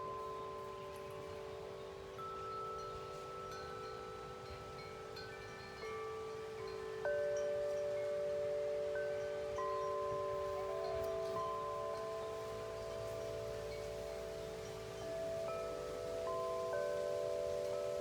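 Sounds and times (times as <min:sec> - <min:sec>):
faint wind rumble: 0:00.0 - 0:18.0
wind chimes ringing: 0:00.0 - 0:18.0.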